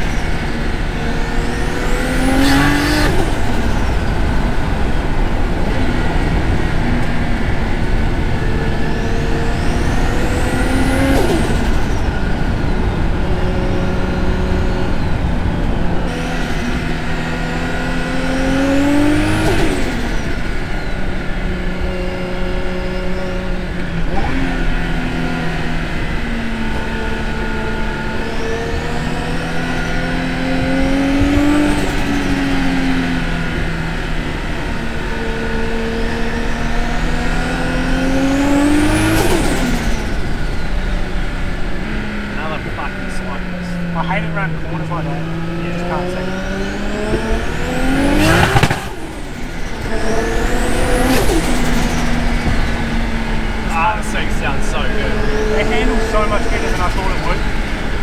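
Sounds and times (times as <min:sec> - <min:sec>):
car engine revving under load: 0:00.0 - 0:58.0.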